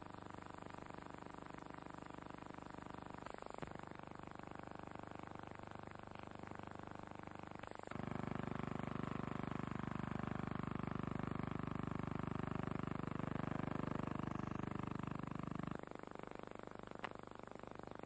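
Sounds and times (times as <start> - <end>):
film transfer hum and hiss: 0.0 - 18.0.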